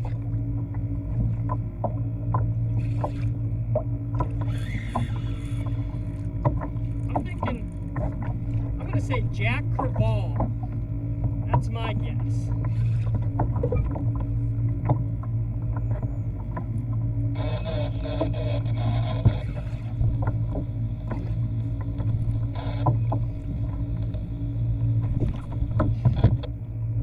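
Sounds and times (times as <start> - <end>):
steady low hum: 0.0 - 27.0
water sloshing against hull: 0.0 - 27.0.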